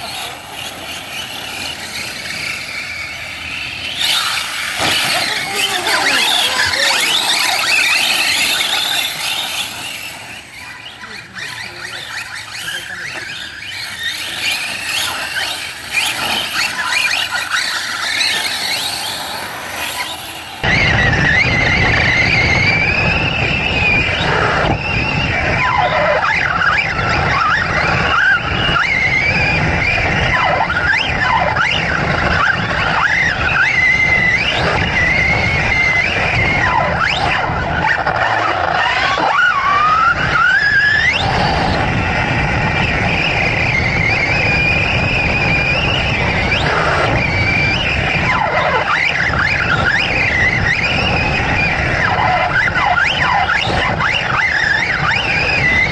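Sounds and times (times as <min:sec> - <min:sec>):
tyres rattling and crunching on dirt: 0:00.0 - 0:22.4, 0:25.4 - 0:55.9
electric motor and gears whining: 0:00.0 - 0:55.9.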